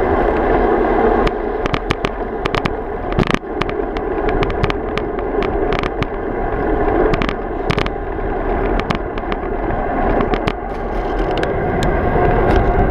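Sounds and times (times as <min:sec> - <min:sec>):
bike clicks and rattles: 0:00.0 - 0:12.9
wind on microphone: 0:00.0 - 0:12.9.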